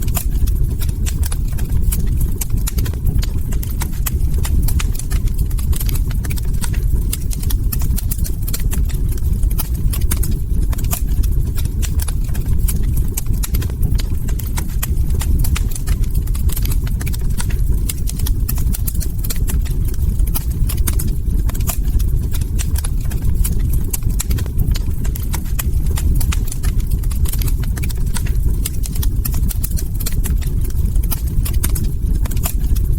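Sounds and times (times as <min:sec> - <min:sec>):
log fire crackling: 0:00.0 - 0:32.9.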